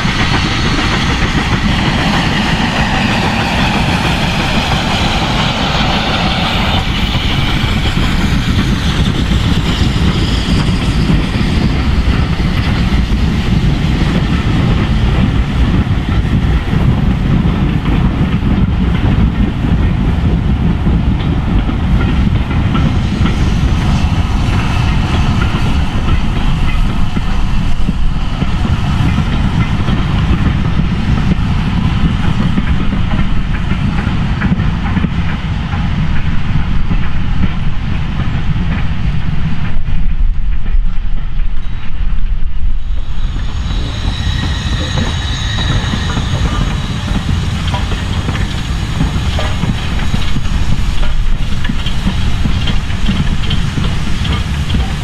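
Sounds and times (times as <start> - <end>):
steam locomotive passing: 0.0 - 55.0.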